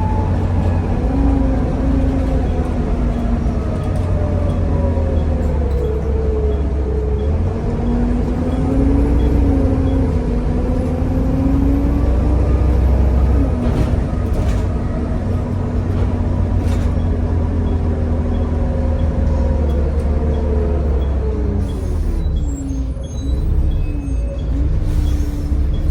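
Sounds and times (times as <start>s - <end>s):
bus engine rumbling under load: 0.0s - 25.9s.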